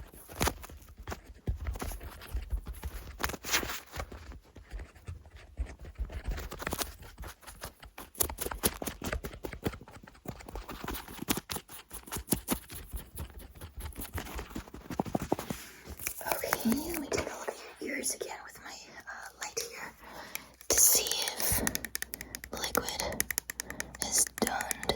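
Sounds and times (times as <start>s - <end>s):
scratching and rubbing on microphone: 0.0s - 20.0s, 20.6s - 22.0s, 22.6s - 24.9s.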